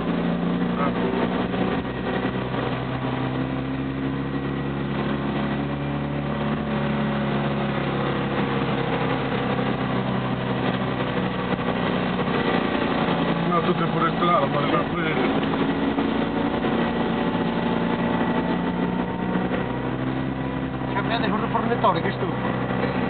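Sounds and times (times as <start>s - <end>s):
car engine running inside cabin: 0.0s - 23.0s.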